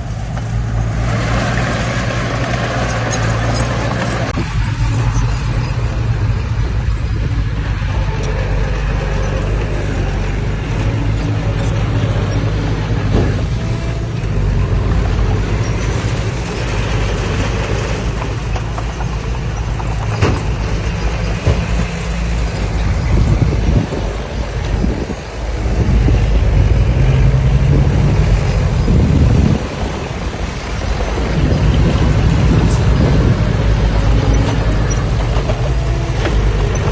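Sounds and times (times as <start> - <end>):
heavy diesel machinery running: 0.0 - 36.9.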